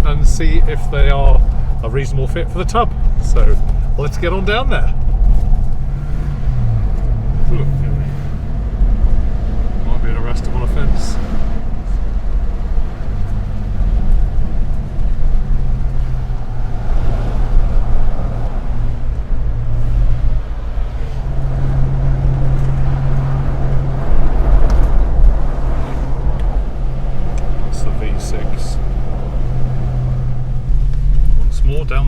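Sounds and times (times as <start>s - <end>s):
car engine from inside cabin: 0.0s - 32.0s
low road rumble: 0.0s - 32.0s.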